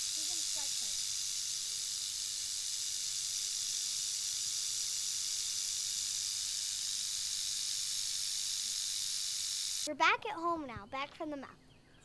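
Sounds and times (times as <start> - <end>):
rattlesnake rattling: 0.0 - 9.9.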